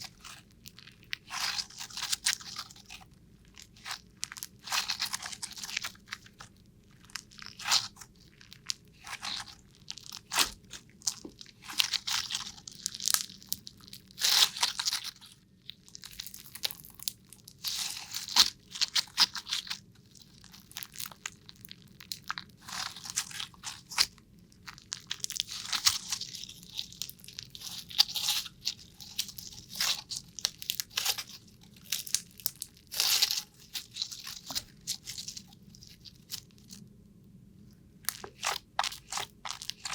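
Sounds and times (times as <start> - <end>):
crisp crunching and crackling: 0.0 - 36.8, 38.0 - 39.9.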